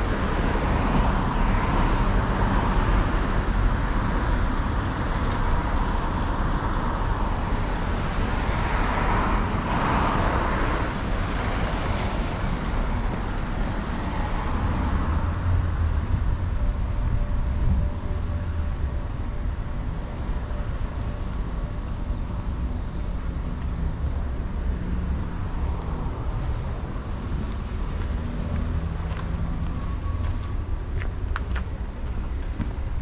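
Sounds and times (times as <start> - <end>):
low rumble of street traffic: 0.0 - 33.0.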